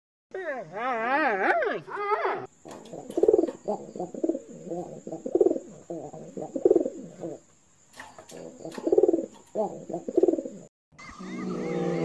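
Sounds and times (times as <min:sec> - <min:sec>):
pigeon cooing: 0:02.0 - 0:12.0.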